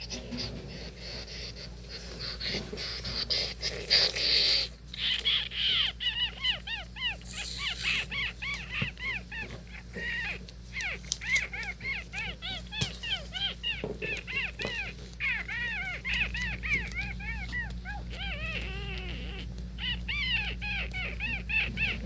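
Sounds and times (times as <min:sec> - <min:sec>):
animal chirping: 0:02.0 - 0:22.0.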